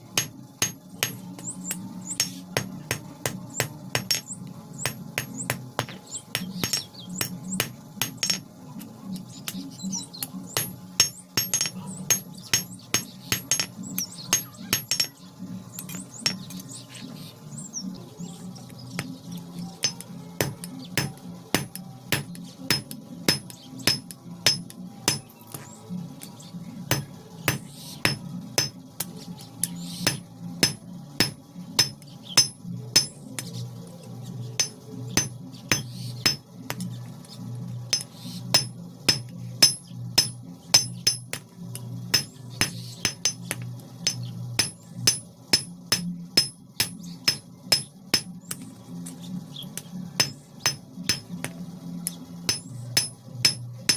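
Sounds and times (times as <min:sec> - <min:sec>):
steady low hum: 0:00.0 - 0:53.9
hammer striking iron on anvil: 0:00.1 - 0:08.5, 0:10.2 - 0:15.2, 0:15.8 - 0:16.6, 0:19.8 - 0:25.7, 0:26.9 - 0:33.6, 0:34.6 - 0:37.0, 0:37.9 - 0:48.7, 0:49.8 - 0:53.9.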